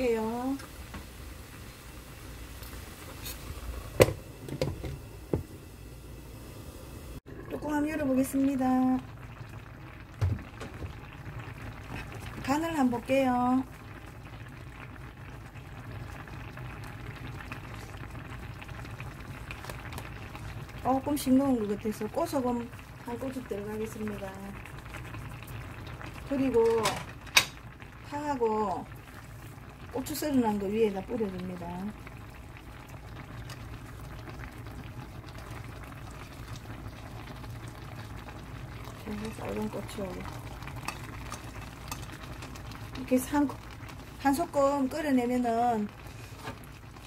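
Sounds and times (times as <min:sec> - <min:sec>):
stew bubbling and popping: 0:00.0 - 0:06.2, 0:07.1 - 0:47.0.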